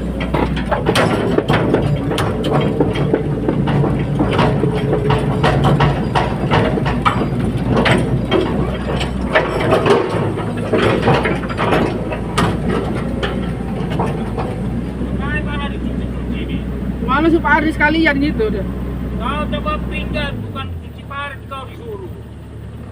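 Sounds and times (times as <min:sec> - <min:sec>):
metallic clanks and knocks: 0:00.0 - 0:18.5
excavator diesel engine running: 0:00.0 - 0:22.9.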